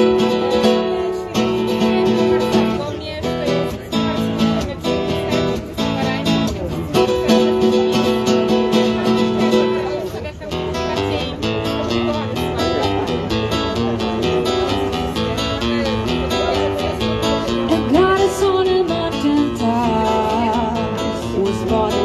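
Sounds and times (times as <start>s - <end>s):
nylon-string guitar strumming: 0.0s - 22.0s.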